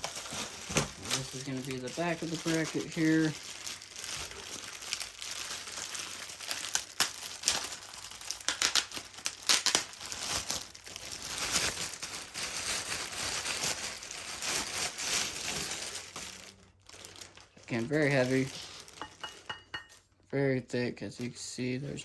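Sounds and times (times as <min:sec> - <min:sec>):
plastic packaging crinkling: 0:00.0 - 0:20.1.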